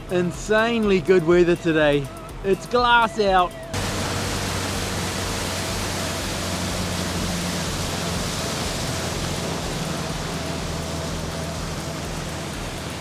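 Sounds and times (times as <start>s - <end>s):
outboard motor hum: 0.0s - 13.0s
wind and water rushing: 0.0s - 13.0s.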